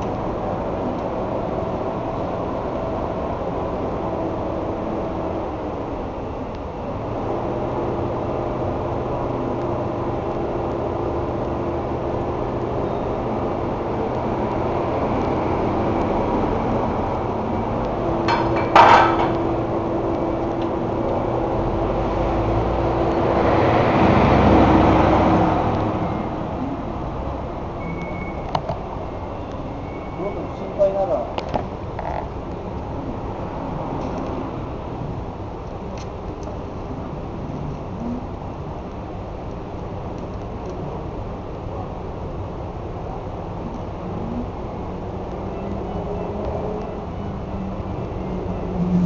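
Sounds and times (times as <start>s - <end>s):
rush of noise: 0.0s - 49.0s.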